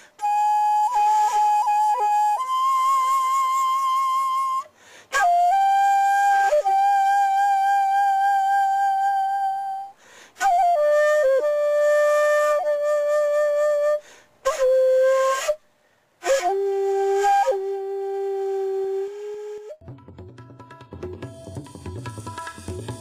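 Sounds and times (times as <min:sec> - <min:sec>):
bamboo flute playing: 0:00.0 - 0:15.6, 0:16.2 - 0:19.9.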